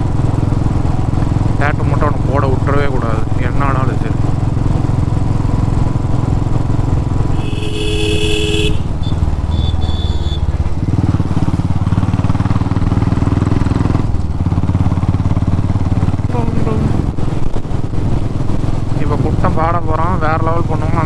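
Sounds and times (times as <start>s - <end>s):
motorcycle engine riding: 0.0s - 21.0s.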